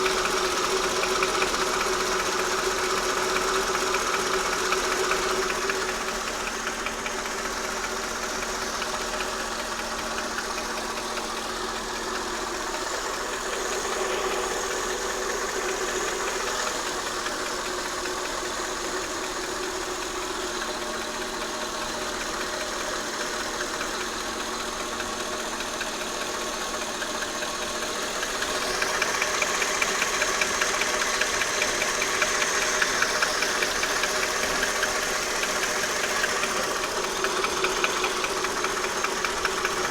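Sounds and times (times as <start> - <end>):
car engine idling: 0.0 - 39.9
rhythmic engine knock: 0.0 - 39.9.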